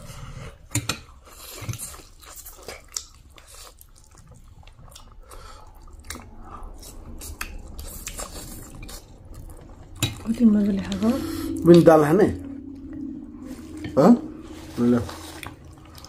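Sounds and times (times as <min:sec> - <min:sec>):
people chewing and slurping noodles: 0:00.0 - 0:11.9, 0:12.6 - 0:16.0.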